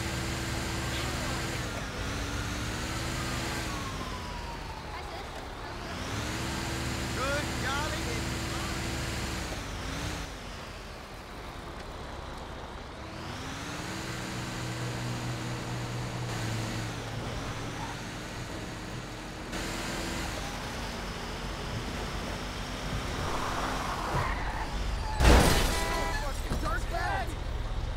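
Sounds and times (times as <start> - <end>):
heavy truck engine accelerating: 0.0 - 27.9.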